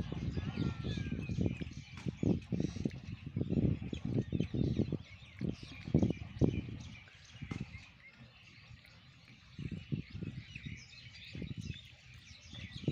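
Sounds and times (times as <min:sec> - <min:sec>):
small birds chirping: 0:00.0 - 0:12.9
wind rumble on microphone: 0:00.0 - 0:12.9.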